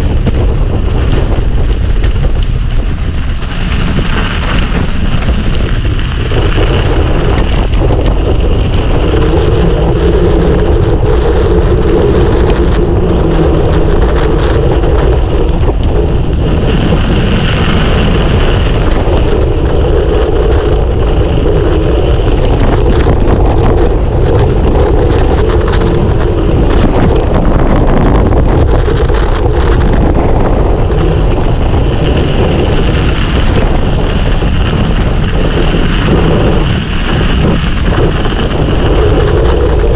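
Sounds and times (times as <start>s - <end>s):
studded tyres rumbling on ground: 0.0s - 39.9s
wind rushing over microphone: 0.0s - 39.9s.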